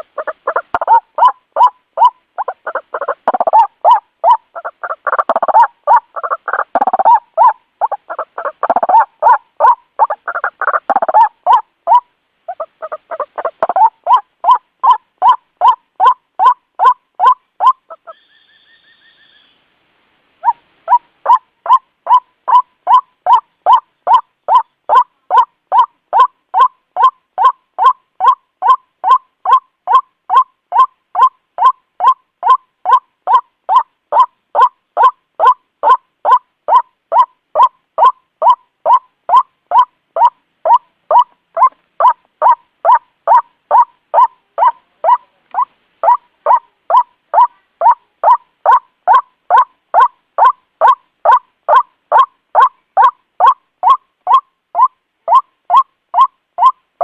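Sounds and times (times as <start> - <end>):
waterhen calling: 0.0 - 19.6, 20.4 - 56.8.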